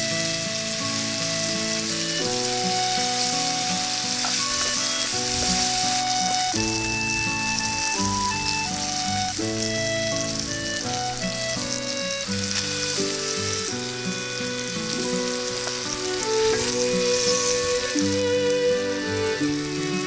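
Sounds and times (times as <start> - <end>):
background music: 0.0 - 20.0
food sizzling in a pan: 0.0 - 20.0.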